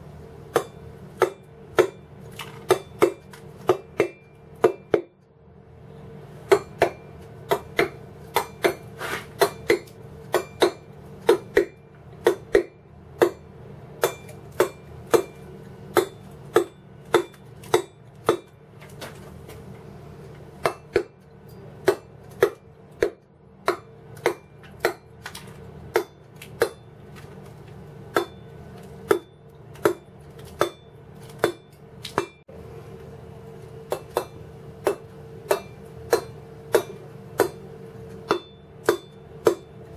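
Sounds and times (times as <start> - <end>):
steady low hum: 0.0 - 39.9
mallet striking chisel on stone: 0.5 - 2.1, 2.7 - 5.1, 6.5 - 18.6, 20.6 - 25.2, 25.9 - 27.0, 28.1 - 32.5, 33.9 - 39.8.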